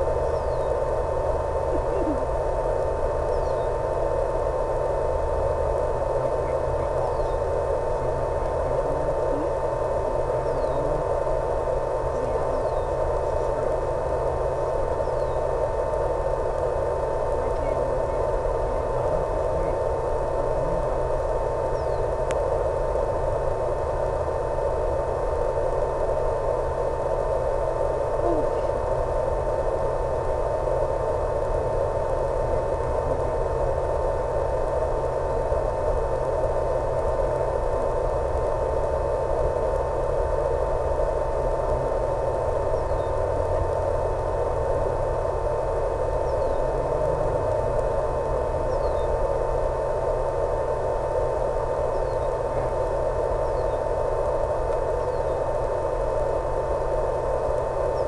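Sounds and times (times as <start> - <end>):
constant whining tone: 0.0 - 58.0
hiss and hum: 0.0 - 58.0.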